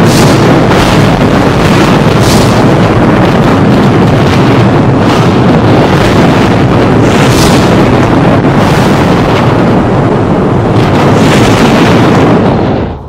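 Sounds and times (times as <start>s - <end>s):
sharp thunder cracks: 0.0s - 13.0s
thunder rumbling: 0.0s - 13.0s.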